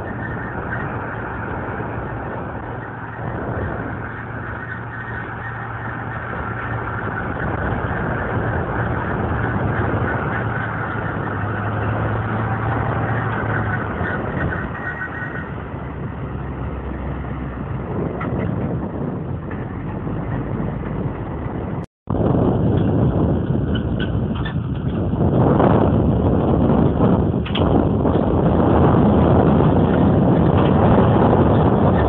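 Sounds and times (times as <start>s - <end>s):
tractor engine under load: 0.0s - 32.0s.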